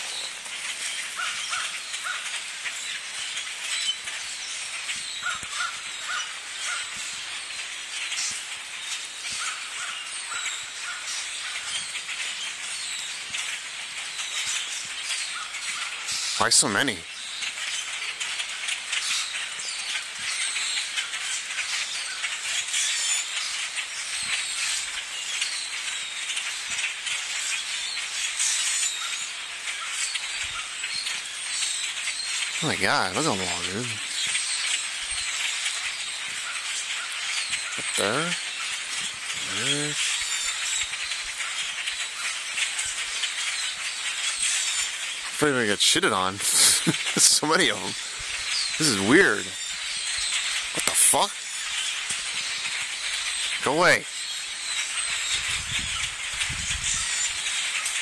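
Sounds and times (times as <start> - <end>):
flock of birds calling: 0.0 - 58.0.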